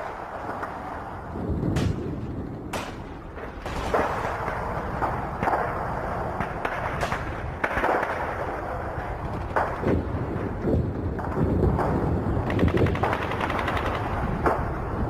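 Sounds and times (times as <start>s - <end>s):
gunshots: 0.0s - 14.8s
steady background rumble: 0.0s - 15.0s.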